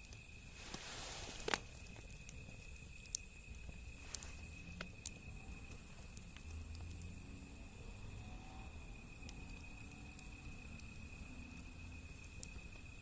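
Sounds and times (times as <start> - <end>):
burning wood popping: 0.0 - 8.2, 8.8 - 13.0
wood fire crackling: 0.0 - 13.0.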